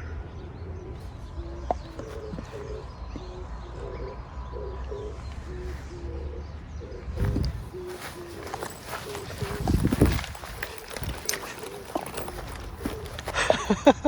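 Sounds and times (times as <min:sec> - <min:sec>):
dove cooing: 0:00.4 - 0:13.9.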